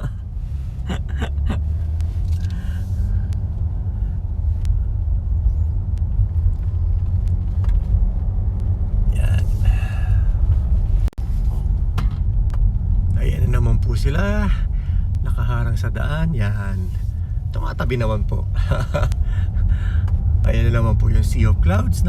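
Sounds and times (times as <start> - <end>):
car driving heard from inside: 0.0 - 22.0.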